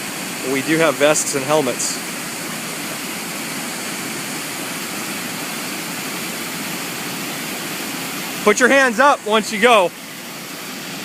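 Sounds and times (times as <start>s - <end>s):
river water rushing over waterfall: 0.0s - 11.0s.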